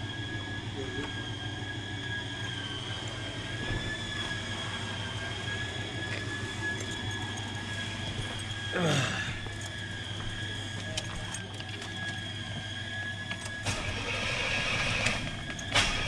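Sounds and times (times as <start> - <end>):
high-pitched whine: 0.0 - 16.0
machine hum: 0.0 - 16.0.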